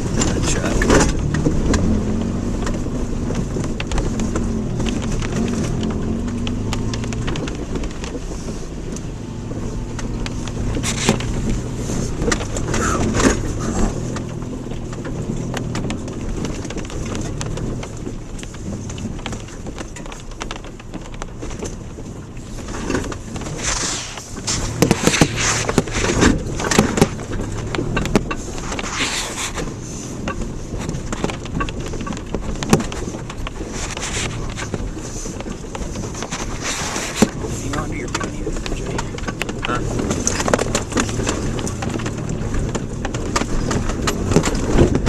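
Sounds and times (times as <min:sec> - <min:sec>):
car engine and tyre rumble: 0:00.0 - 0:45.0
car knocks and rattles: 0:00.0 - 0:45.0.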